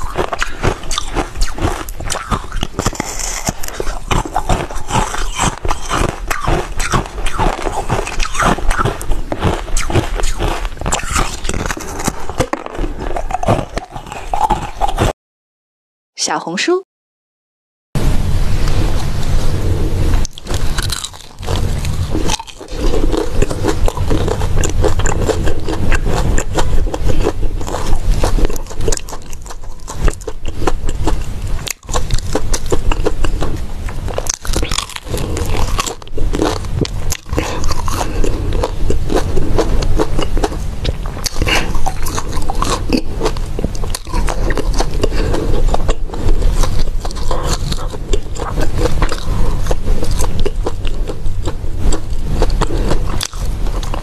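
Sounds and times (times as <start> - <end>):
crisp crunching and chewing: 0.0 - 15.1, 20.2 - 54.0.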